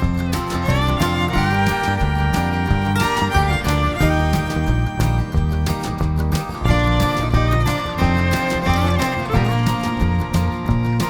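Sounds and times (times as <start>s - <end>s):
upbeat country music: 0.0s - 11.0s.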